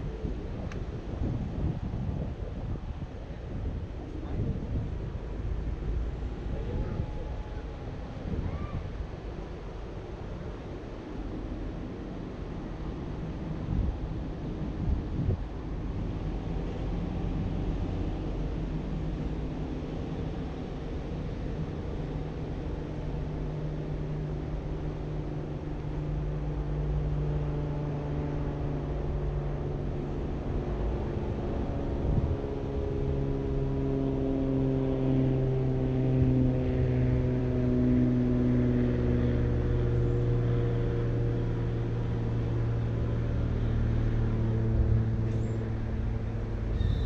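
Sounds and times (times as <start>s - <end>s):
road noise: 0.0s - 47.0s
car engine drone: 3.4s - 47.0s.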